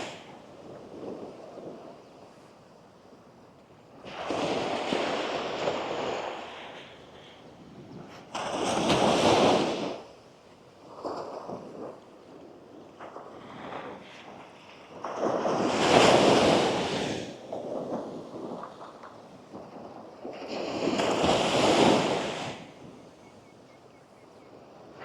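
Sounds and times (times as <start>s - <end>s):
small waves breaking on sand: 0.0s - 25.0s.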